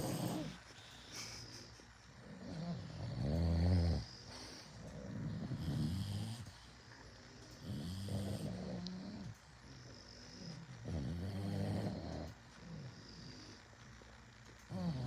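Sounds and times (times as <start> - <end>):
dog snoring: 0.0 - 1.4, 2.2 - 6.7, 7.6 - 13.8, 14.7 - 15.0.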